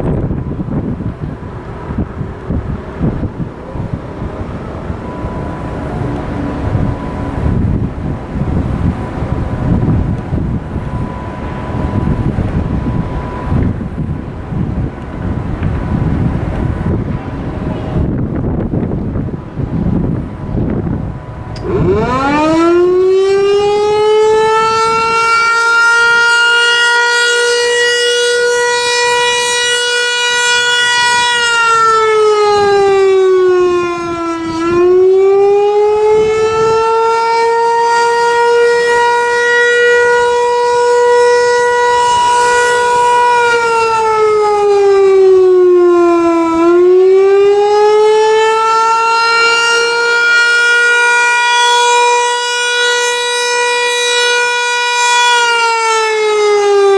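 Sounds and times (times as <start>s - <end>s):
warning siren wailing: 0.0s - 56.9s.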